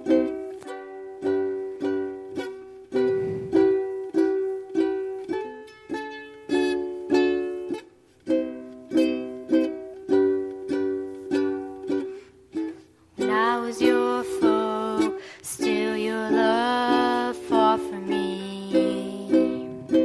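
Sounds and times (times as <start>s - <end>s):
acoustic string instrument strumming: 0.0s - 20.0s.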